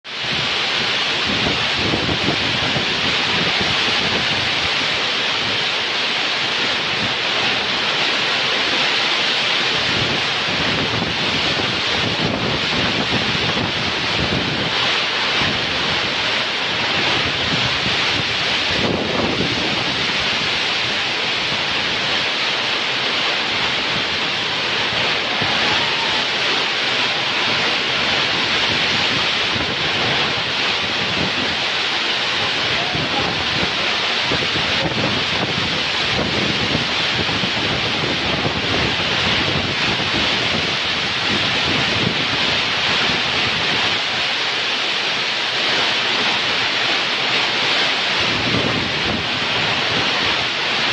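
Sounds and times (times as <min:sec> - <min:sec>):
heavy rain on corrugated roof: 0:00.0 - 0:50.9
wind gusting on microphone: 0:00.0 - 0:50.9.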